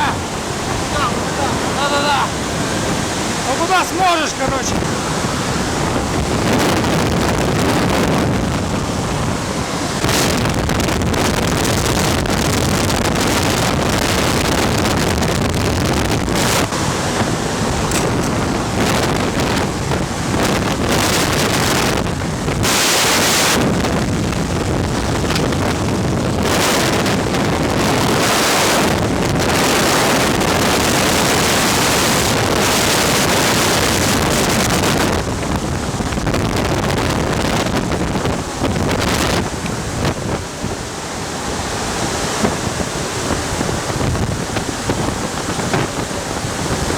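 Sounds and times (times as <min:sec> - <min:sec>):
ventilation fan air rush: 0:00.0 - 0:46.9
wind buffeting microphone: 0:00.0 - 0:46.9.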